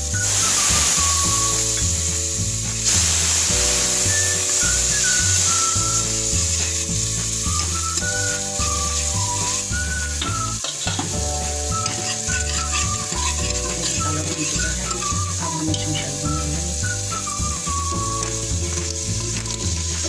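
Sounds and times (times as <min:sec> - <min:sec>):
instrumental background music: 0:00.0 - 0:20.0
sauce sizzling in hot oil: 0:00.0 - 0:20.0
steel ladle stirring: 0:02.7 - 0:20.0.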